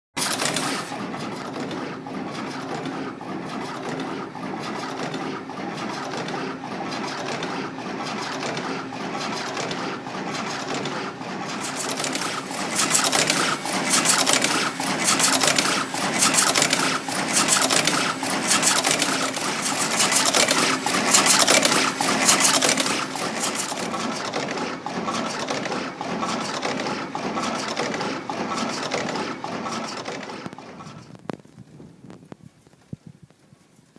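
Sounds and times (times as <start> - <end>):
crimping machine clatter: 0.2 - 31.4
machine hum: 0.2 - 32.2.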